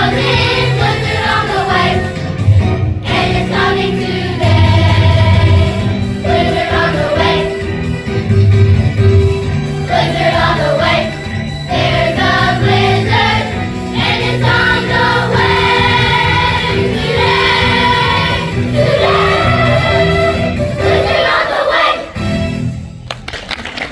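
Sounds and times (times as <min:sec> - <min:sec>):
children's chorus singing: 0:00.0 - 0:22.3
instrumental accompaniment: 0:00.0 - 0:23.1.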